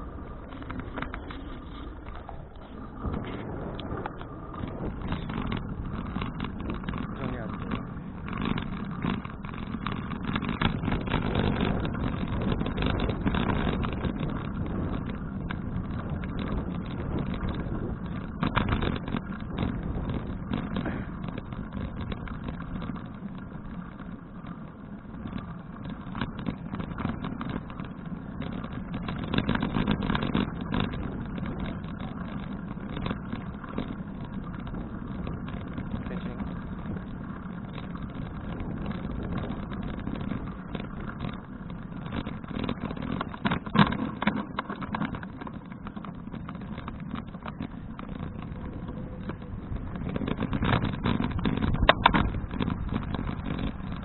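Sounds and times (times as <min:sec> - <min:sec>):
crackling wind buffets: 0:00.0 - 0:54.0
road rumble: 0:00.0 - 0:54.0
wind rush on microphone: 0:00.0 - 0:54.0.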